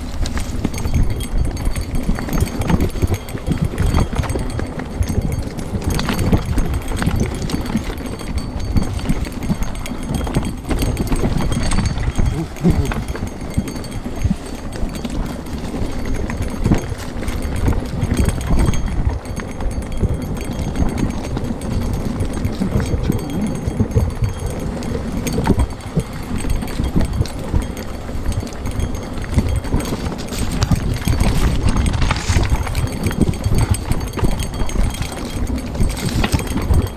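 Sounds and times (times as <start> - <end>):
bike wheels knocking on rocks: 0.0 - 36.9
mountain bike rumbling over stones: 0.0 - 36.9.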